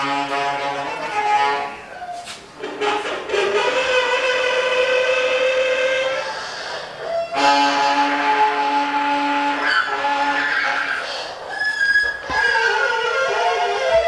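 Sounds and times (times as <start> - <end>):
long held pitched notes: 0.0 - 14.0.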